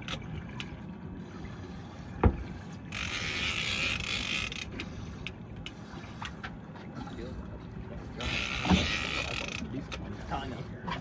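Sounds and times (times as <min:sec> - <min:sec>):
boat at sea: 0:00.0 - 0:11.0.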